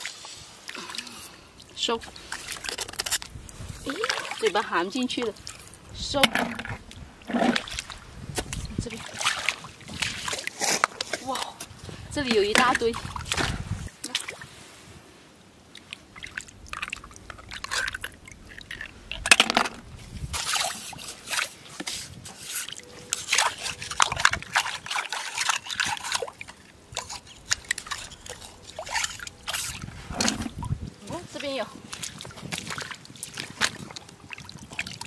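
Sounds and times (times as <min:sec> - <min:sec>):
seawater sloshing and splashing: 0:01.9 - 0:11.6, 0:12.4 - 0:14.9, 0:15.6 - 0:35.0.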